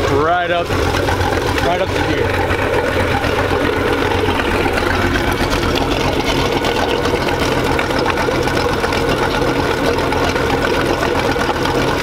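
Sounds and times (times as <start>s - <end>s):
boat engine hum: 0.0s - 12.0s
rapid mechanical clatter: 0.0s - 12.0s.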